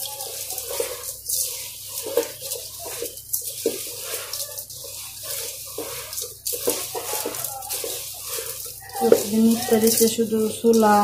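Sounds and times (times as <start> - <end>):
hand kneading moist grains in pot: 0.0 - 11.0.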